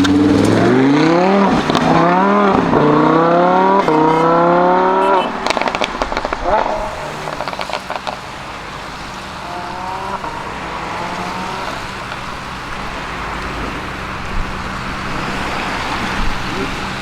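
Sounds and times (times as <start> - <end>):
car engine revving: 0.0 - 17.0
road and wind noise: 0.0 - 17.0.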